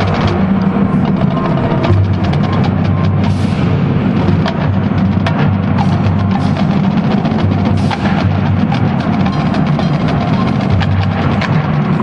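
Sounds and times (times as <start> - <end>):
marching band playing: 0.0 - 12.0
quick sharp drum strokes: 0.0 - 12.0.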